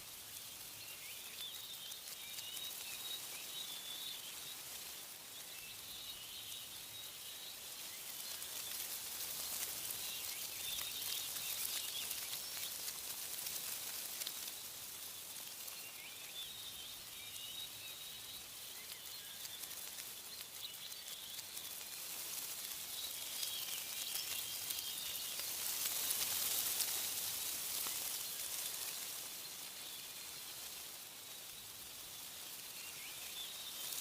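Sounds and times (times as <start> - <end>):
birds chirping faintly: 0.0 - 34.0
wind rustling leaves: 0.0 - 34.0.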